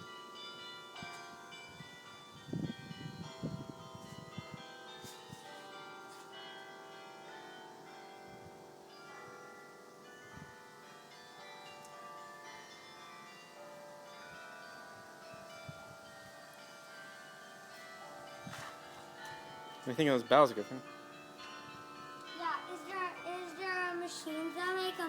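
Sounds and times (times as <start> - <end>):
tower bells chiming: 0.0 - 25.0.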